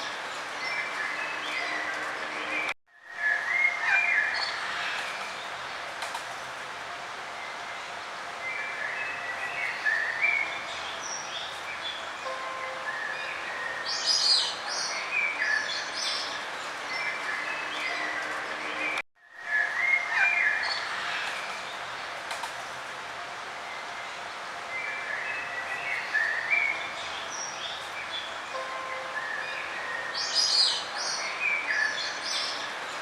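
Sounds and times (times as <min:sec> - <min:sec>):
steady outdoor hiss: 0:00.0 - 0:33.0.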